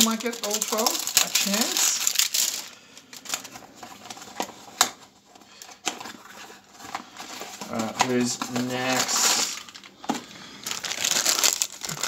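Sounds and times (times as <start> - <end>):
packaging rustle: 0.0 - 12.0.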